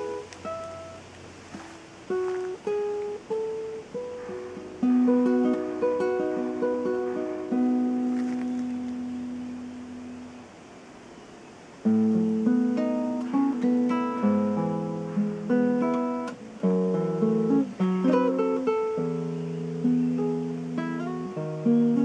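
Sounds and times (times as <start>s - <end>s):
fingerstyle acoustic guitar: 0.0s - 10.6s, 11.8s - 22.0s.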